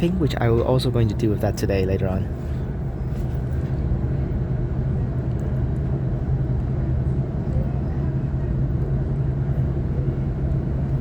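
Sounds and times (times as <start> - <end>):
train interior hum: 0.0 - 11.0
wheels rumbling on rails: 0.0 - 11.0.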